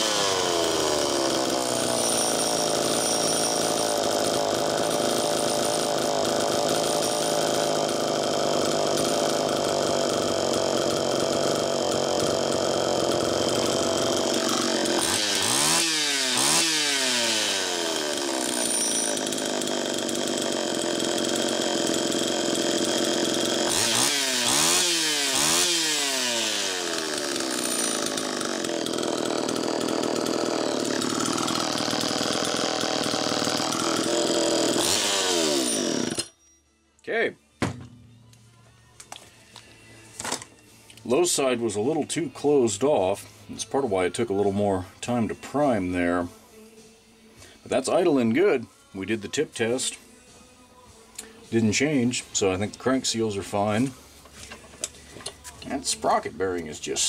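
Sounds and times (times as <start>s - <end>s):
chainsaw engine idling and revving: 0.0s - 36.3s, 40.9s - 46.4s, 51.5s - 57.0s.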